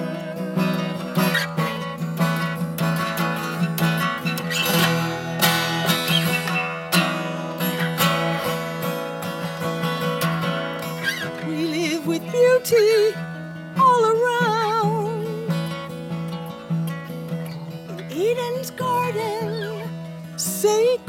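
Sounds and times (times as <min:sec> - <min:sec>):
acoustic guitar strummed and plucked: 0:00.0 - 0:21.0.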